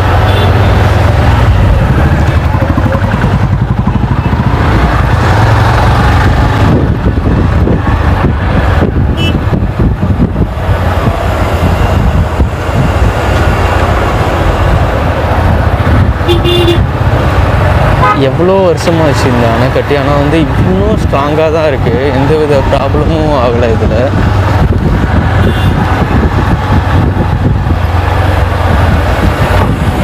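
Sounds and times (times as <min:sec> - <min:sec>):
motorcycle engine: 0:00.0 - 0:30.0
road noise: 0:00.0 - 0:30.0.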